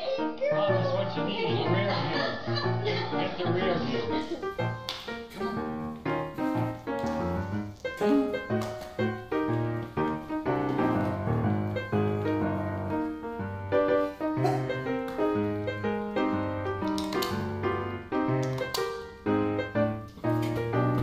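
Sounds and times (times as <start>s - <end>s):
keyboard melody: 0.0s - 21.0s.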